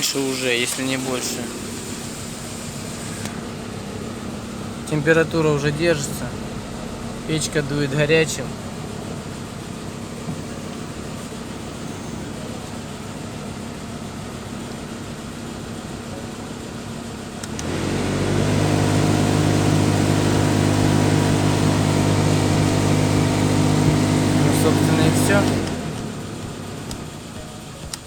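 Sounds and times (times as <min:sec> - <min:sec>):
car engine idling: 0:00.0 - 0:28.0
radiator cooling fan humming: 0:00.0 - 0:28.0.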